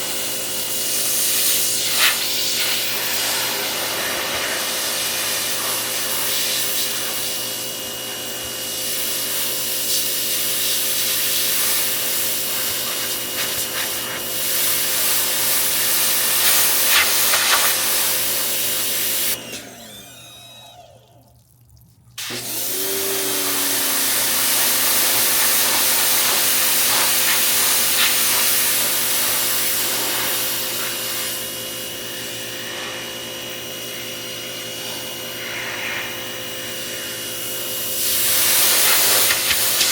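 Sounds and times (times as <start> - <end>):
pressure washer spraying: 0.0 - 19.4, 22.2 - 39.9
pump motor running: 0.0 - 39.9.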